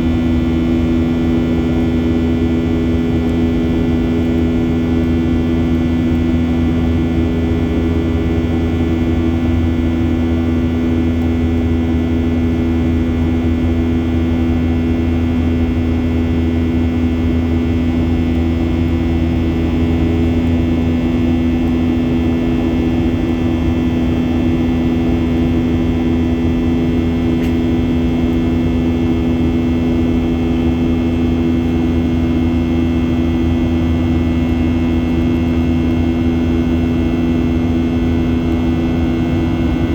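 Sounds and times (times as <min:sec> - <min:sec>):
jet engines droning in cabin: 0:00.0 - 0:39.9.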